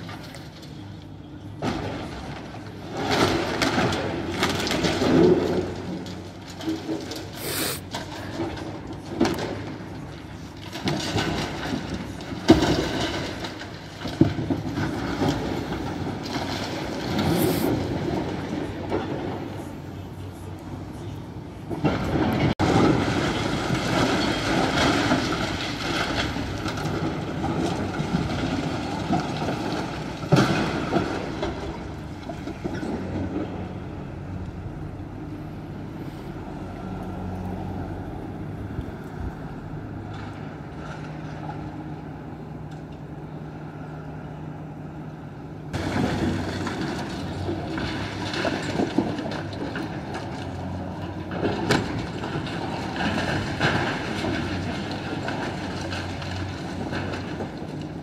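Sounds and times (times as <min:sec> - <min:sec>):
heavy machinery rumbling and crunching: 0:00.0 - 0:58.0.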